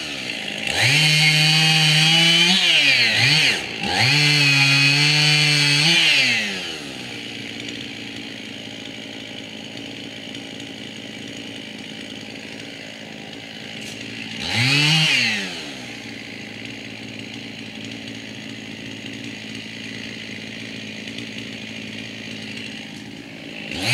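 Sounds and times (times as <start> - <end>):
chainsaw idling and revving: 0.0 - 23.9.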